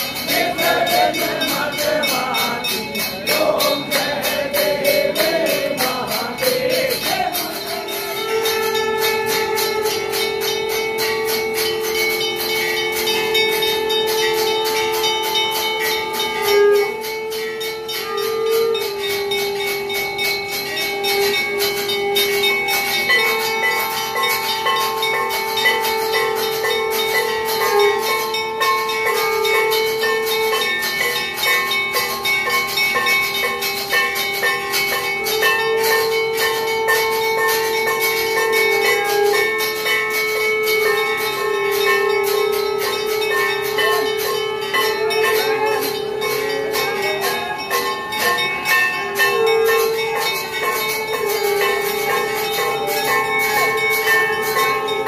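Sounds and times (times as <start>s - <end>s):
temple bells ringing rapidly: 0.0s - 55.0s.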